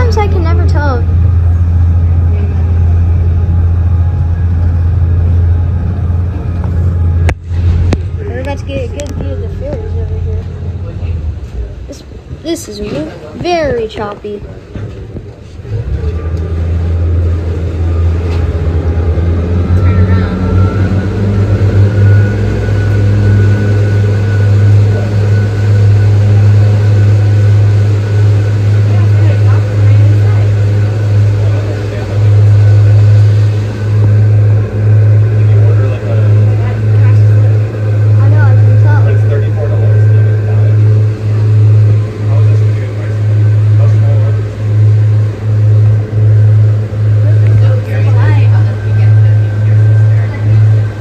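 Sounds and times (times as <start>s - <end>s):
boat engine droning: 0.0s - 51.0s
faint high whine: 0.0s - 51.0s.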